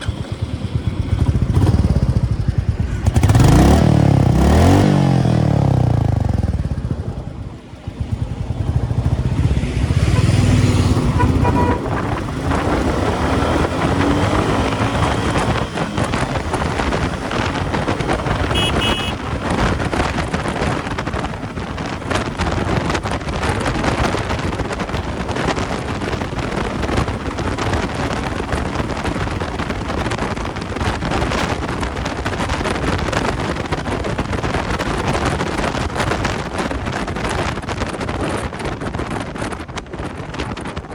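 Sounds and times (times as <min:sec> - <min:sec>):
motorcycle engine accelerating: 0:00.0 - 0:40.9
wind buffeting microphone: 0:00.0 - 0:40.9.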